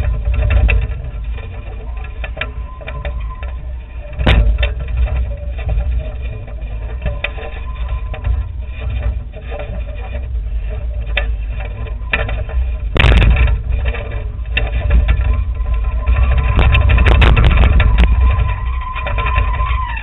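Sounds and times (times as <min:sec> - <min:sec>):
drone motor whine: 0:00.0 - 0:20.0
wind buffeting: 0:00.0 - 0:20.0.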